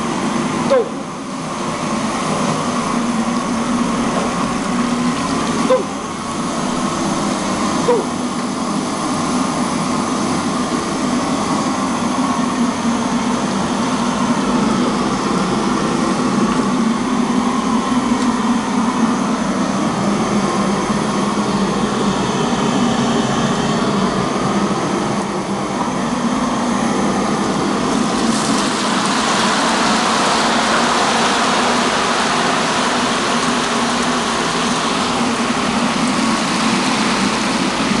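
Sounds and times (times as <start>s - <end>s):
gas burners roaring: 0.0s - 38.0s.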